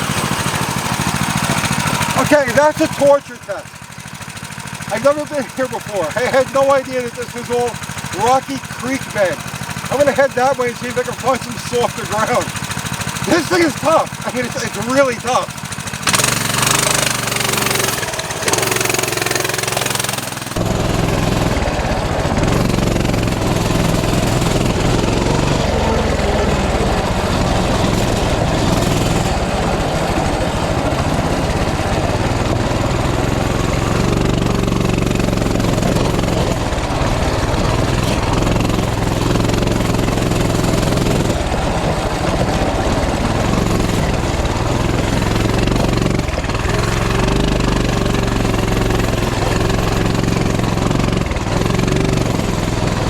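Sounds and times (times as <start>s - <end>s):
small engine running under load: 0.0s - 53.0s.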